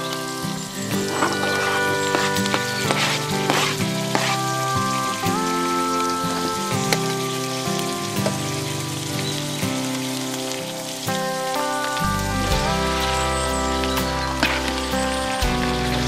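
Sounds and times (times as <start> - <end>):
background music with sustained chords: 0.0 - 16.0
crackling hiss: 0.0 - 16.0.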